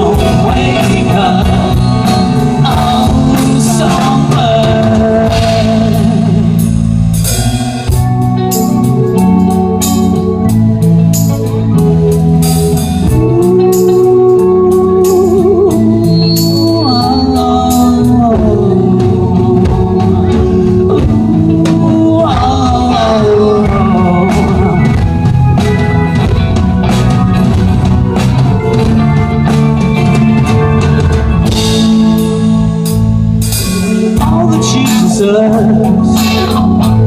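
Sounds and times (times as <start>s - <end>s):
bass: 0.0s - 37.0s
drum kit: 0.0s - 37.0s
live rock band playing: 0.0s - 37.0s
melodic lead line: 0.0s - 37.0s.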